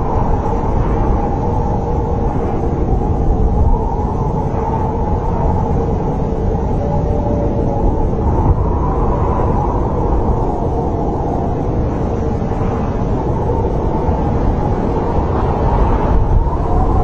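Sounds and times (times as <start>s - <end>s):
snowstorm wind howling: 0.0s - 17.0s.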